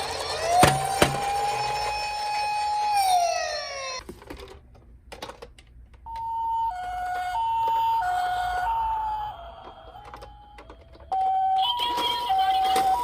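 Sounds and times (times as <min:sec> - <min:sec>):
toy siren wailing: 0:00.0 - 0:04.0, 0:06.1 - 0:13.0
two-tone hi-lo siren: 0:00.0 - 0:04.0, 0:06.1 - 0:13.0.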